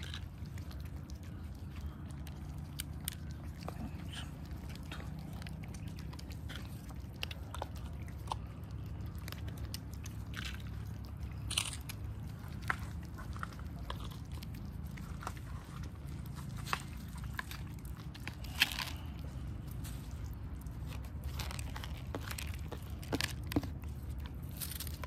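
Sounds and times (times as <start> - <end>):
cats chewing food: 0.0 - 25.0
kibble clicks and crunches: 0.0 - 25.0
low background rumble: 0.0 - 25.0.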